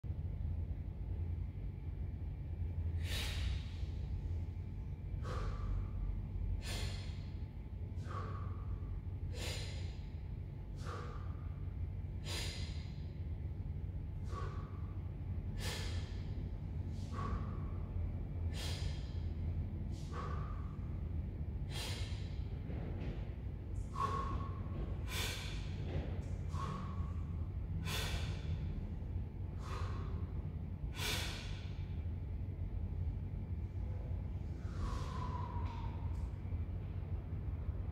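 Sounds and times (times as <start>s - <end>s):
steady low hum: 0.0s - 37.9s
man breathing deeply: 1.9s - 37.8s.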